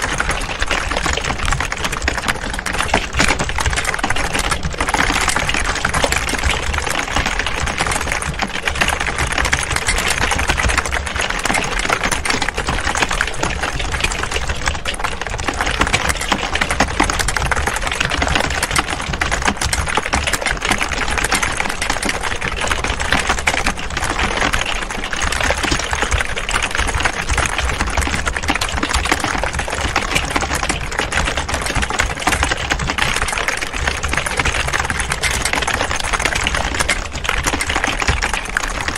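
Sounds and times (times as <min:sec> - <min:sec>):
keyboards typing clatter: 0:00.0 - 0:38.9.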